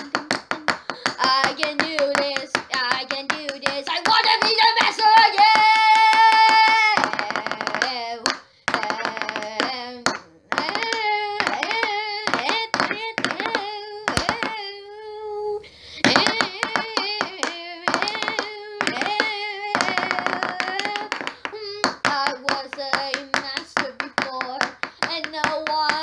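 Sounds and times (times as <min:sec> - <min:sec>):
high voice singing: 0:00.0 - 0:26.0.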